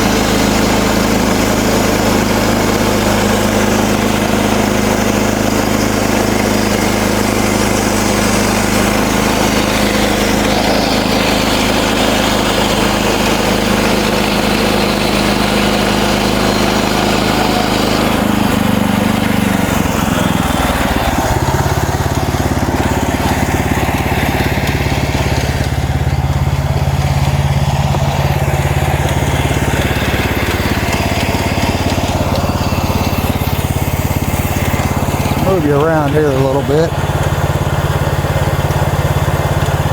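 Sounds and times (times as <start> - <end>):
bandsaw sawmill cutting log: 0.0 - 39.9.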